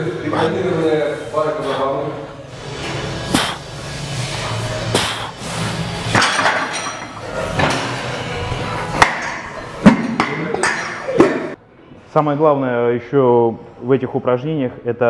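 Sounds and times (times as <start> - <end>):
room noise: 0.0 - 13.4.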